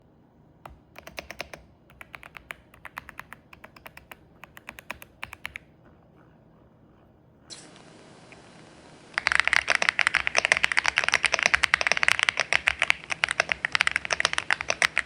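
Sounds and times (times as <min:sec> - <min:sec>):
typing on mechanical keyboard: 0:00.6 - 0:07.0, 0:09.2 - 0:15.0.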